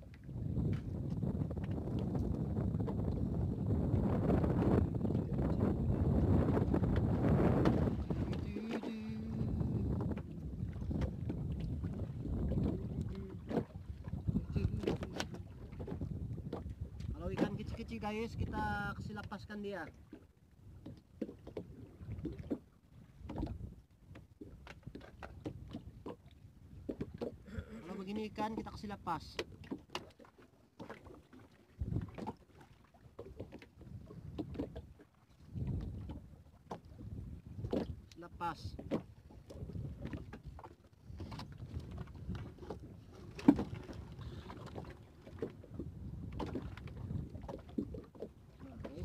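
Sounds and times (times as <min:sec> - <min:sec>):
knocks and taps on boat: 0:00.0 - 0:49.0
water and wind around hull: 0:00.0 - 0:49.0.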